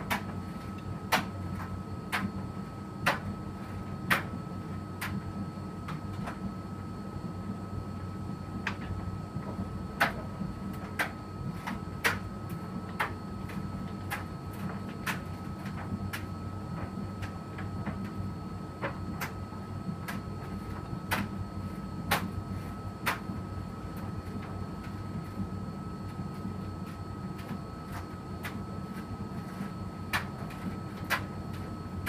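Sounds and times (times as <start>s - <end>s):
washing machine motor hum: 0.0s - 32.0s.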